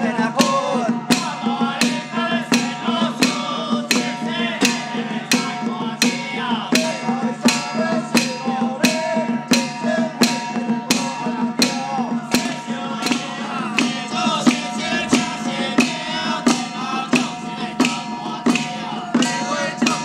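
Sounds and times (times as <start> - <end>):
percussion beat: 0.0 - 20.0.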